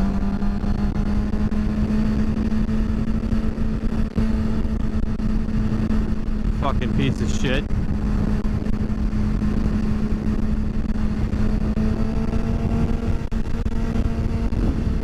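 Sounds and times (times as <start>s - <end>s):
higher engine tones: 0.0s - 15.0s
motorcycle engine running: 0.0s - 15.0s
wind and road noise: 0.0s - 15.0s.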